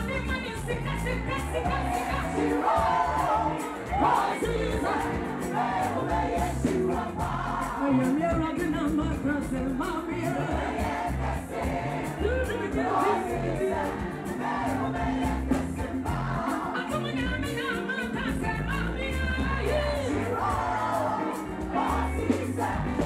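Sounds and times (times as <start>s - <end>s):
backing vocals: 0.0s - 23.0s
band playing a steady beat: 0.0s - 23.0s
woman singing lead: 0.0s - 23.0s.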